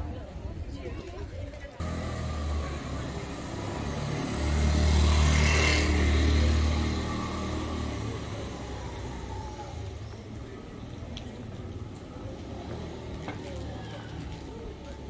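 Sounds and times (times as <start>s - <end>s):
scooter passing by: 1.8s - 15.0s.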